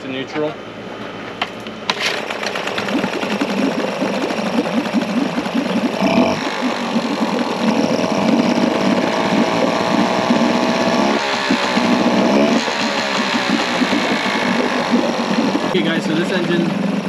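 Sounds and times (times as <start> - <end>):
outboard motor running: 1.9 - 17.0.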